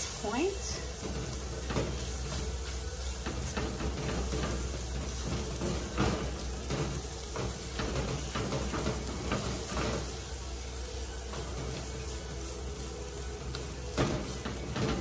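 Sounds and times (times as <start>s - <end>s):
spatula scraping a metal pan: 0.0s - 15.0s.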